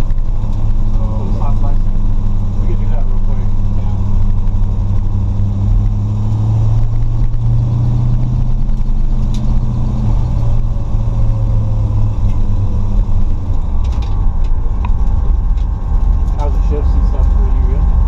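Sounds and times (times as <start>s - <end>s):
car engine low drone from cabin: 0.0s - 18.0s.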